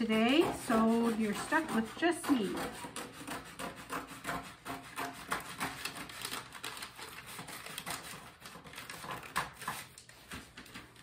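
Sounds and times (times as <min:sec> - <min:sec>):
transfer sheet being cut: 0:00.0 - 0:10.8.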